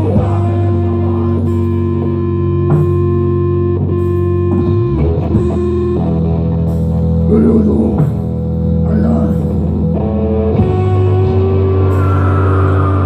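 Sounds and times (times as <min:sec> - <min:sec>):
bass guitar: 0:00.0 - 0:13.0
electric guitar chords: 0:00.0 - 0:13.0
rock band playing: 0:00.0 - 0:13.0.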